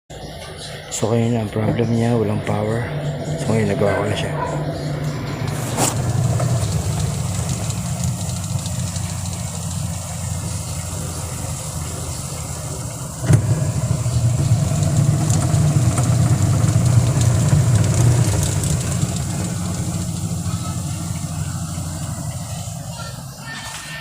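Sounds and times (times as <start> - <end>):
washing machine hum: 0.1 - 24.0.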